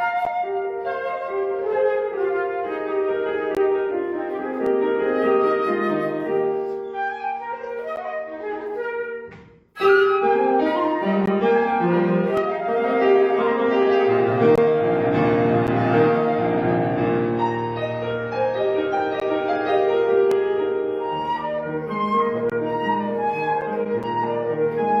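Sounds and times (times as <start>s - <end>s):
flute melody: 0.0s - 25.0s
piano chords: 0.0s - 25.0s.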